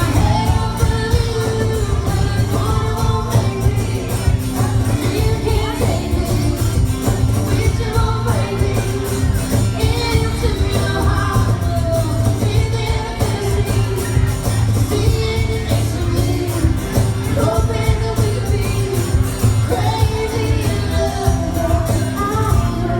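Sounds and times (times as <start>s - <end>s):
live country band with singing: 0.0s - 22.9s.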